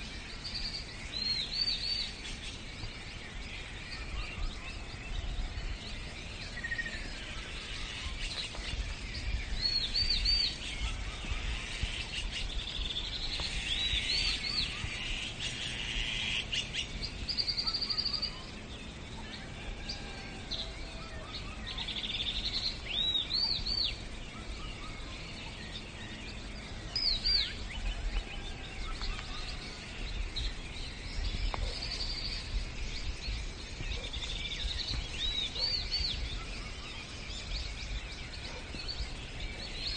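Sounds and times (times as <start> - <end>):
birds singing and chirping: 0.0 - 39.9
outdoor background hiss: 0.0 - 39.9.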